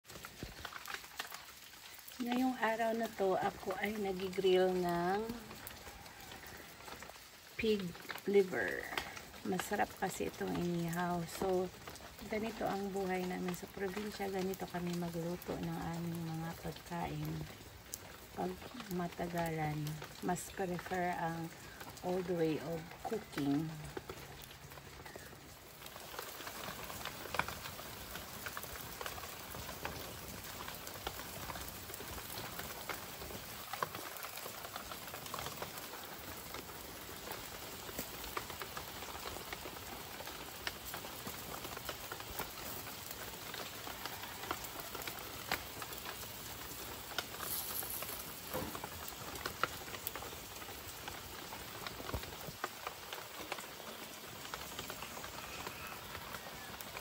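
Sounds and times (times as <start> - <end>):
wood fire crackling: 0.0 - 57.0
liver sizzling on a grill: 0.1 - 57.0.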